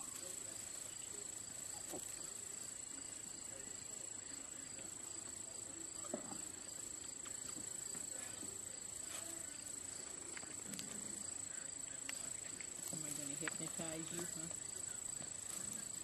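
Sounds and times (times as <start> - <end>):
low murmur: 0.0 - 16.0.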